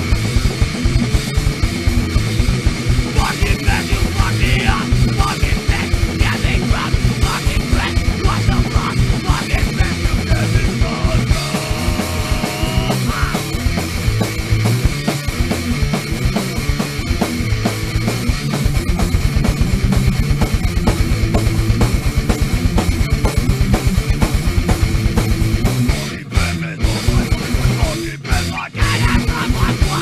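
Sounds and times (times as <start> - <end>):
punk metal band playing: 0.0 - 30.0
rapid drum pounding: 0.0 - 30.0.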